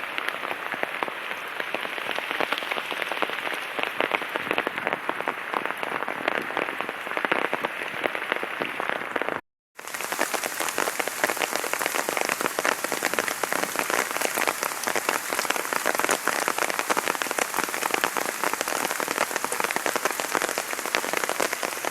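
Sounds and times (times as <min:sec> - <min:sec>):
heavy rain falling: 0:00.0 - 0:21.9.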